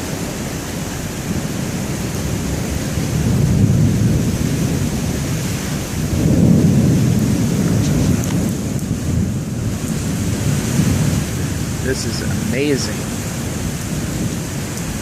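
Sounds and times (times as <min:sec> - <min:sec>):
heavy wind-driven rain: 0:00.0 - 0:15.0
low thunder rumble: 0:01.0 - 0:15.0.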